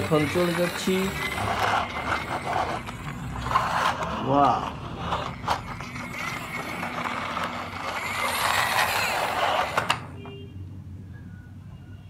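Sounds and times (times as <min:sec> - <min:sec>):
plastic toy car rolling and rattling: 0:00.0 - 0:10.4.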